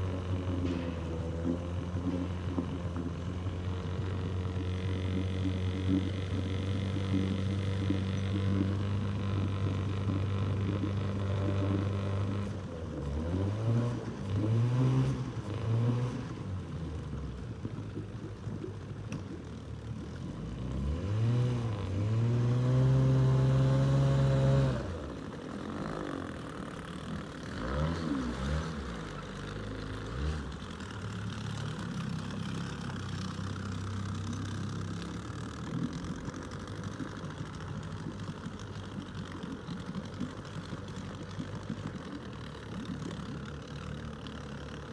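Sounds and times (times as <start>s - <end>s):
outboard motor idling and revving: 0.0s - 44.9s.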